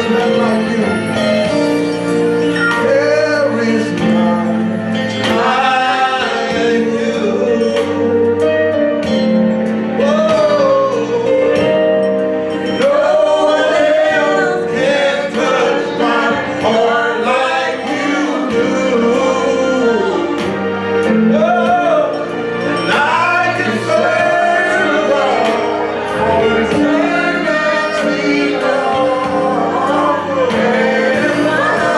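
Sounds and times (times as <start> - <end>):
gospel singing: 0.0 - 31.9
instrumental accompaniment: 0.0 - 31.9.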